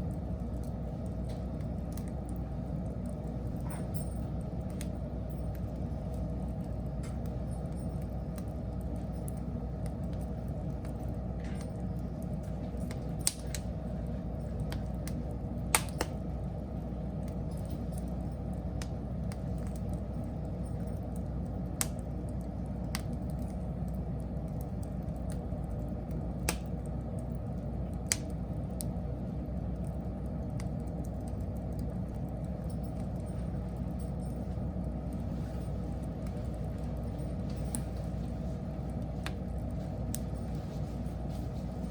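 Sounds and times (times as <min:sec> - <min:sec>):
fire crackles and pops: 0:00.0 - 0:41.9
wood fire rumbling: 0:00.0 - 0:41.9.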